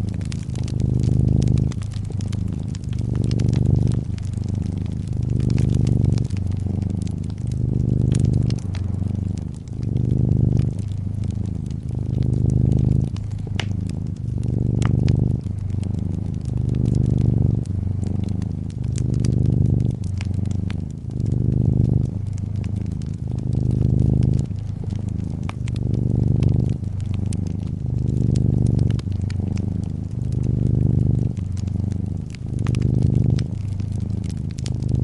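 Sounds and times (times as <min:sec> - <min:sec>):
cat purring: 0:00.0 - 0:35.0
fireplace crackling: 0:00.0 - 0:35.0.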